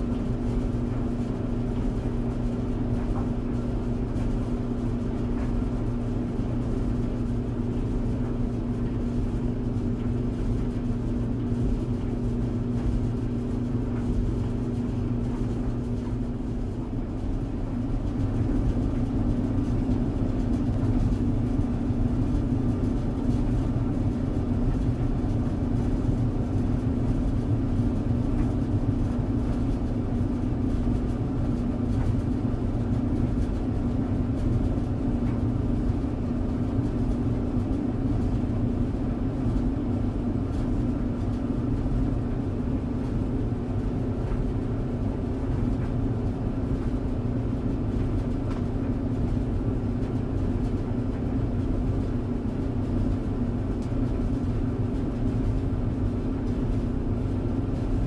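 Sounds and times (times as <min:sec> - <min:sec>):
tumble dryer drum rumbling: 0:00.0 - 0:58.0.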